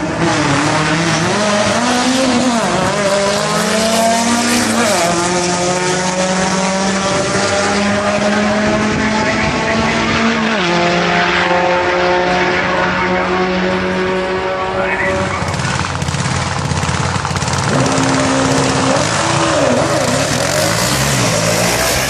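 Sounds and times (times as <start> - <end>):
drag racing engine at full throttle: 0.0 - 22.0.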